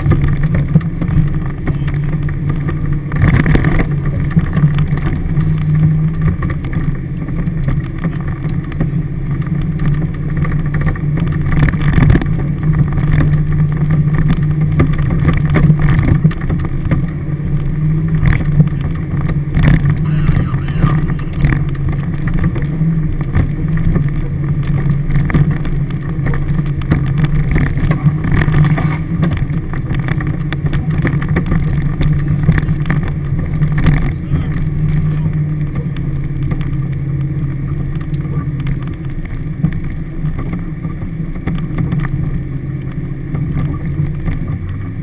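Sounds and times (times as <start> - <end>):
body and suspension rattles: 0.0 - 45.0
vehicle engine running: 0.0 - 45.0.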